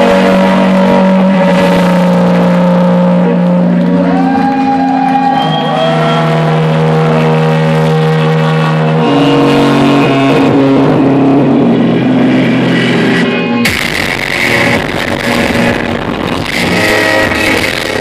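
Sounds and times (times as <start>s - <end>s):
held synth bass notes: 0.0s - 18.0s.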